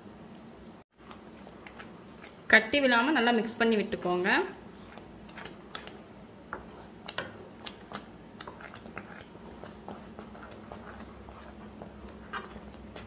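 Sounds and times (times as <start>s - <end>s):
faint steady hum: 0.0s - 13.0s
spatula stirring thick semolina: 1.0s - 13.0s.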